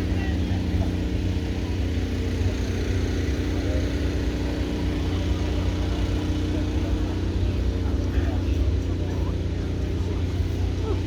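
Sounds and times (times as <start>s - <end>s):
vehicle engine running steadily: 0.0s - 11.0s.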